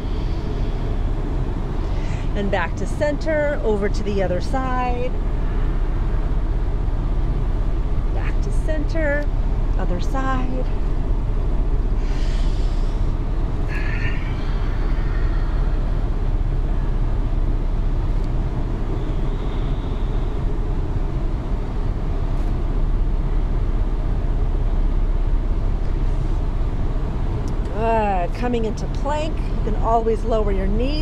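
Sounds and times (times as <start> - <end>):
ship running noise: 0.0 - 31.0.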